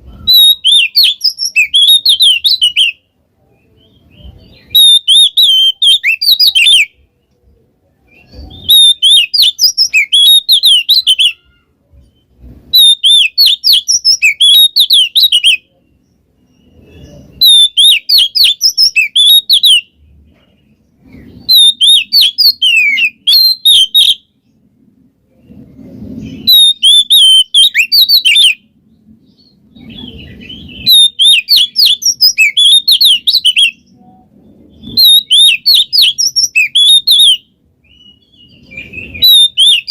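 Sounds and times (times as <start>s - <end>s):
bird singing rapid chattering: 0.0s - 3.0s, 3.6s - 6.9s, 8.1s - 19.9s, 21.0s - 24.2s, 26.2s - 28.6s, 29.2s - 39.9s.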